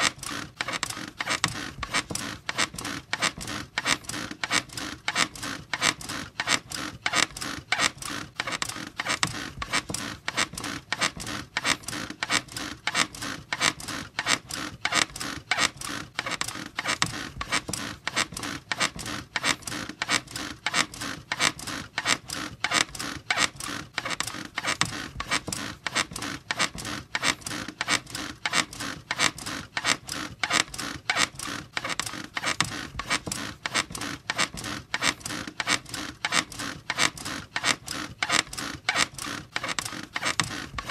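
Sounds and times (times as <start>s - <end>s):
squeaky bed creaking: 0.0s - 40.9s.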